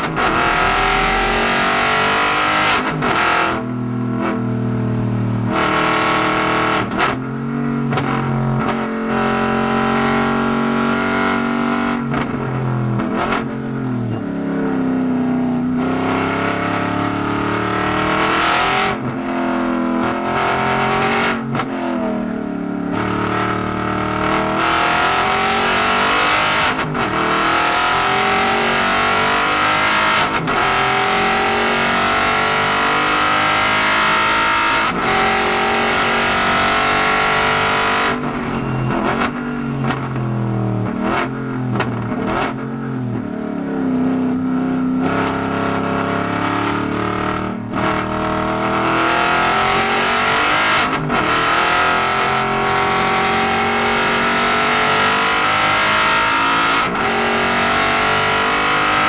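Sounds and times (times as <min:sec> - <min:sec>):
race car engine accelerating: 0:00.0 - 0:14.8, 0:22.9 - 0:44.4, 0:45.0 - 0:59.0.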